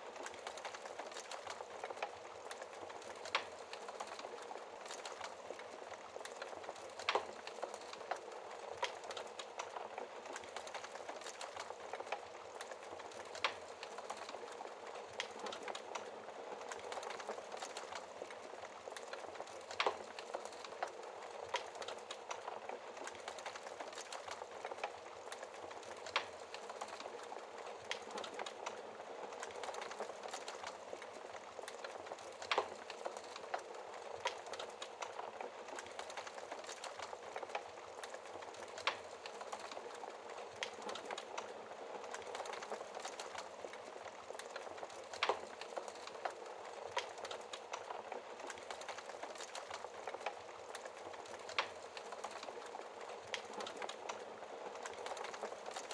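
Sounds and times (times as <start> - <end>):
wood fire crackling: 0.0 - 55.9
fire popping: 0.1 - 55.9.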